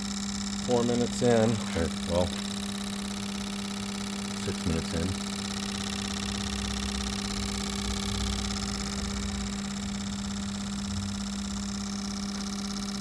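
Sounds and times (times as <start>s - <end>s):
fuel injector tester humming: 0.0s - 13.0s.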